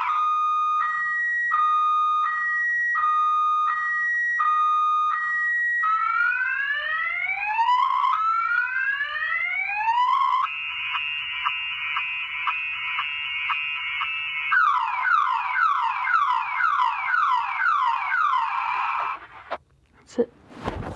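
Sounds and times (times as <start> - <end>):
car alarm siren cycling tones: 0.0 - 19.2.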